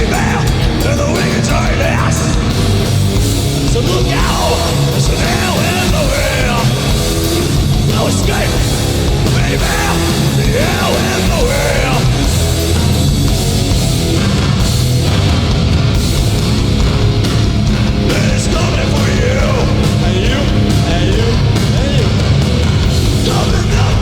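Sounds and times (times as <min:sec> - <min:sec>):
hardcore punk band playing: 0:00.0 - 0:24.0.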